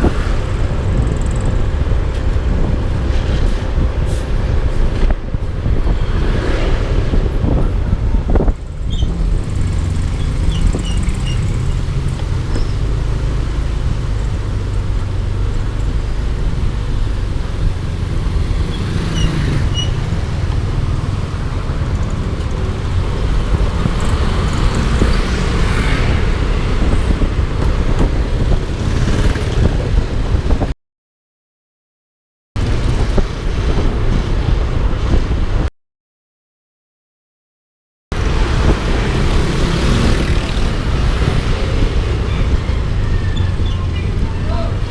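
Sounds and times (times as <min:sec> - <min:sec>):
road noise: 0:00.0 - 0:30.8, 0:32.6 - 0:35.7, 0:38.1 - 0:44.9
wind rumble on microphone: 0:00.0 - 0:30.8, 0:32.6 - 0:35.7, 0:38.2 - 0:44.9.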